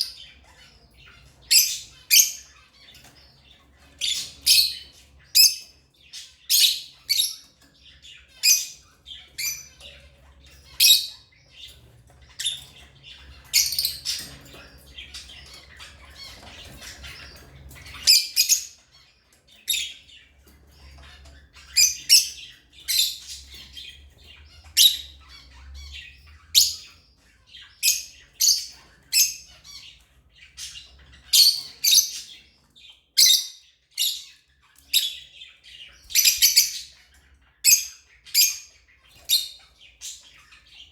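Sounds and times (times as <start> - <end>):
lovebirds squawking chirps: 0.0 - 40.9.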